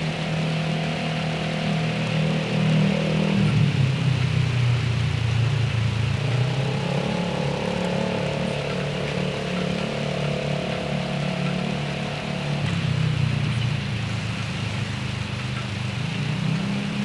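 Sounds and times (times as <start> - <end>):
rain hissing: 0.0 - 17.0
vehicle engine hum: 0.0 - 17.0.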